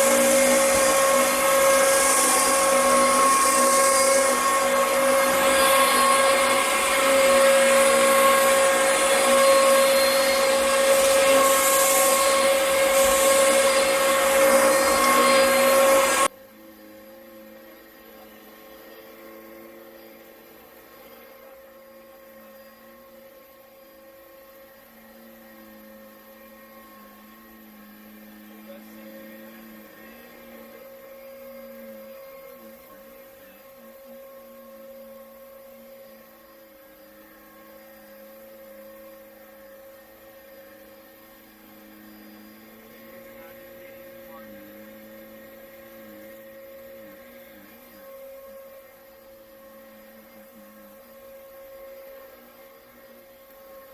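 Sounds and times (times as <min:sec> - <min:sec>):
vacuum cleaner motor whine: 0:00.0 - 0:53.9.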